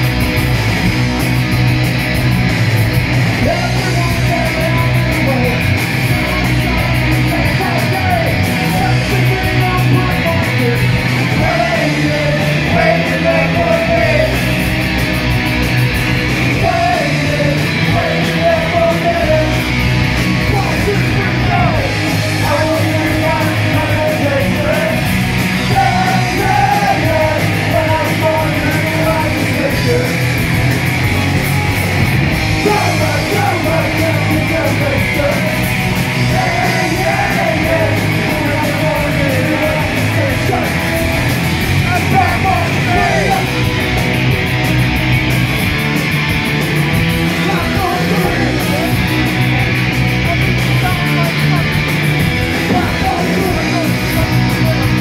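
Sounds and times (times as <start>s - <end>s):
punk rock band playing: 0.0s - 55.0s
yelled lead vocal: 0.0s - 55.0s.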